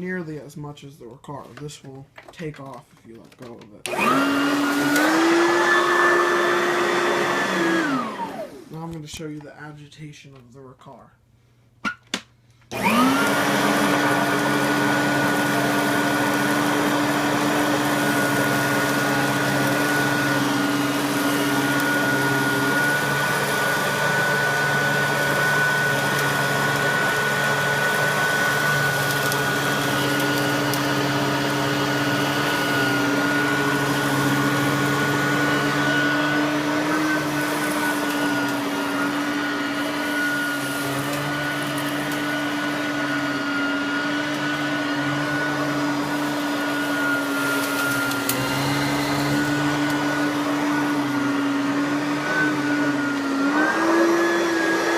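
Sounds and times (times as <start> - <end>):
vacuum cleaner running: 3.8 - 9.0, 12.7 - 54.9.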